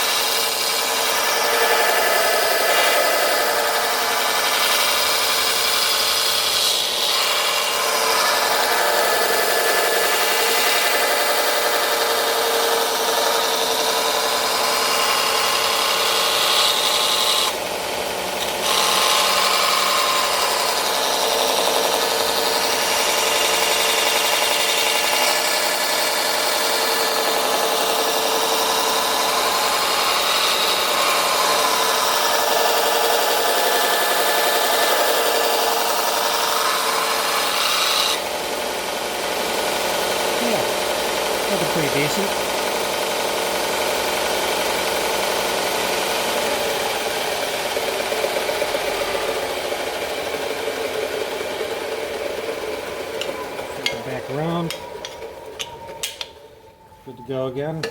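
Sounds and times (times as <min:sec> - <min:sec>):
belt sander running: 0:00.0 - 0:56.4.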